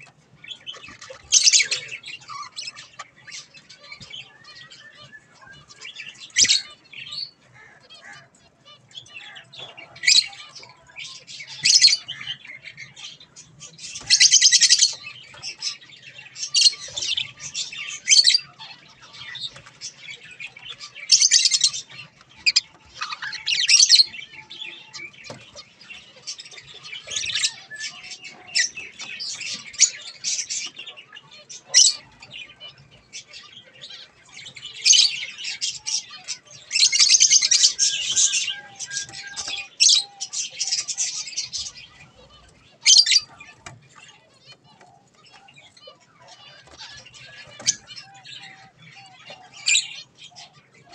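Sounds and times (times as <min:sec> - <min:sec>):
budgerigars chirping: 0:00.0 - 0:50.9.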